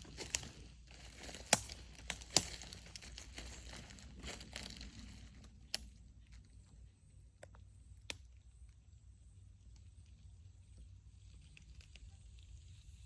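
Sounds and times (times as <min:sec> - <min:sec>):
crinkling crackling rustle: 0:00.0 - 0:07.6, 0:09.6 - 0:13.0.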